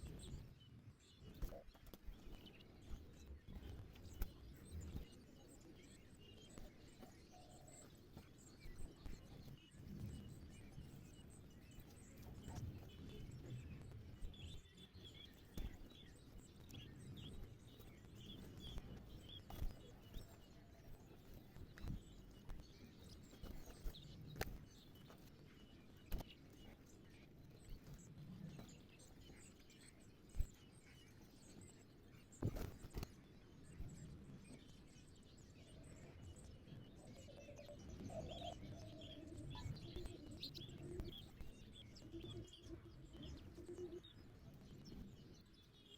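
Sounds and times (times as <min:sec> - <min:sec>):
faint sparrow chirps: 0:00.0 - 0:45.9.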